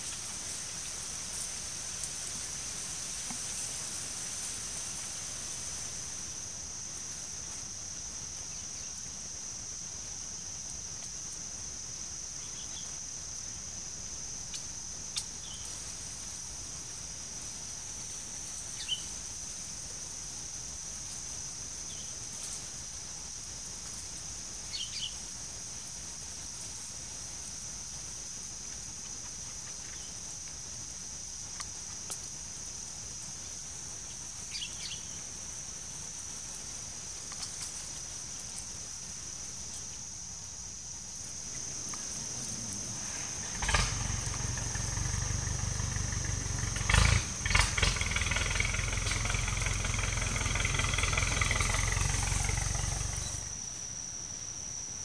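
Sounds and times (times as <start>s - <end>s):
insect chirring: 0.0s - 55.0s.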